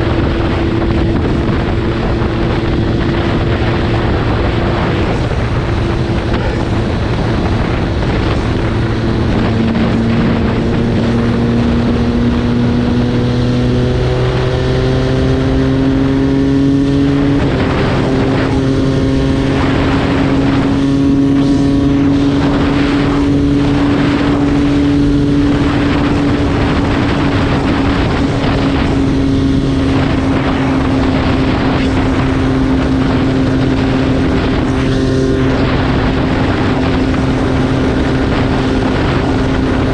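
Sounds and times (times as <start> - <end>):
heavy wind noise: 0.0 - 39.9
motorcycle engine running: 0.0 - 39.9.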